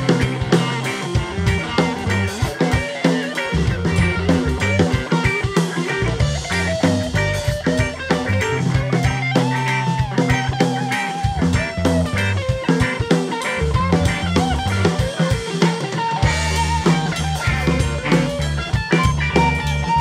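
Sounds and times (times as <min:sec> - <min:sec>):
drum kit beat: 0:00.0 - 0:20.0
electric guitar bending lead line: 0:00.0 - 0:20.0
rock band playing live: 0:00.0 - 0:20.0.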